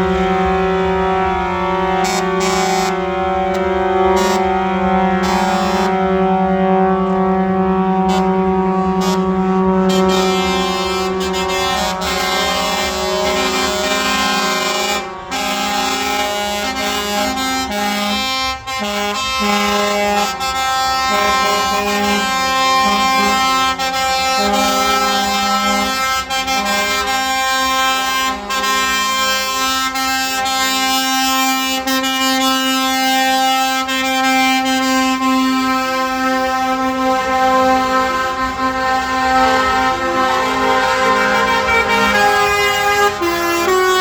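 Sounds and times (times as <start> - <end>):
truck musical air horns: 0.0 - 44.0.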